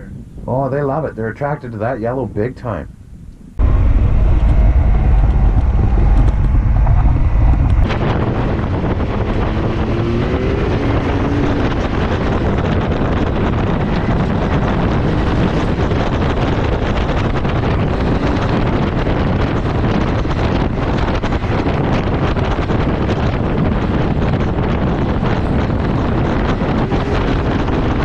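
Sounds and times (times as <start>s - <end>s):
vehicle engine rumble: 0.0s - 28.0s
wind noise on microphone: 0.0s - 28.0s
faint rising whine: 3.5s - 28.0s.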